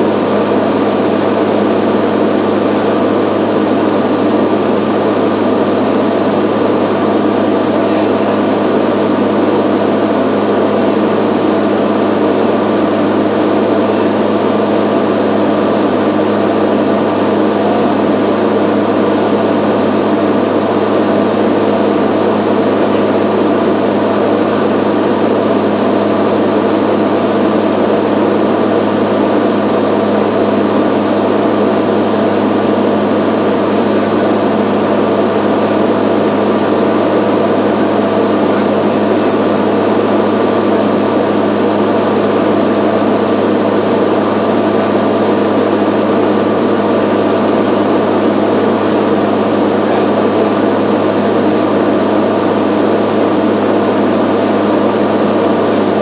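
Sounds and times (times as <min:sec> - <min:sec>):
propeller engine droning: 0:00.0 - 0:56.0.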